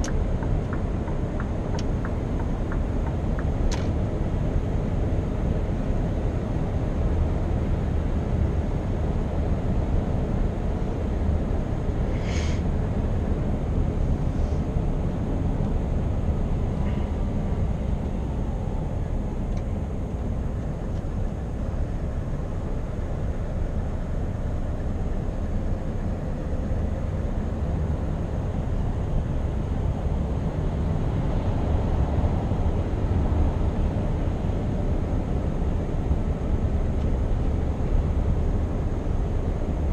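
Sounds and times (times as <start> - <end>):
truck diesel engine cruising: 0.0 - 39.9.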